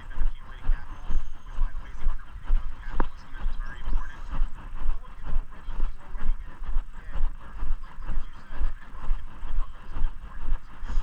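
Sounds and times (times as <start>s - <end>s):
low rumbling microphone jostle: 0.0s - 11.0s.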